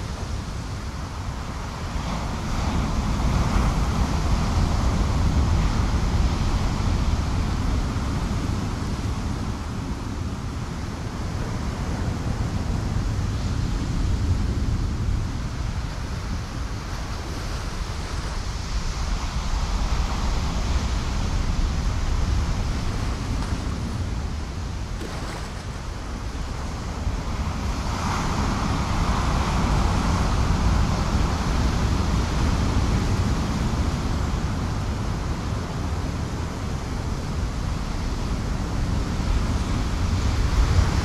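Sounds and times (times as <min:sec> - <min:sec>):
ocean surf washing: 0:00.0 - 0:41.0
wind rumbling on microphone: 0:00.0 - 0:41.0.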